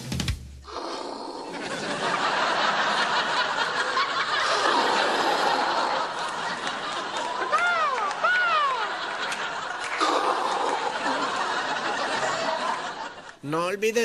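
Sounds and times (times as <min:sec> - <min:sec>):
audience laughing: 0:00.7 - 0:13.4.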